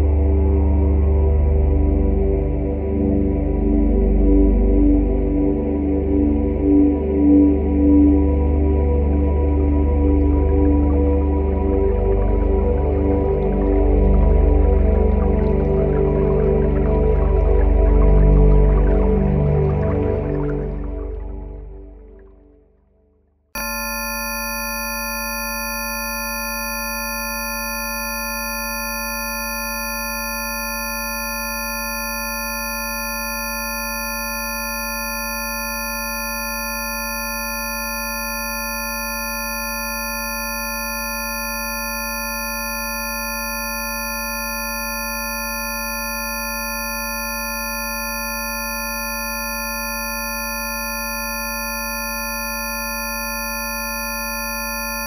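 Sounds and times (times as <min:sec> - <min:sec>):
steady synthesized sine tones: 0:00.0 - 0:22.2, 0:23.6 - 0:55.0.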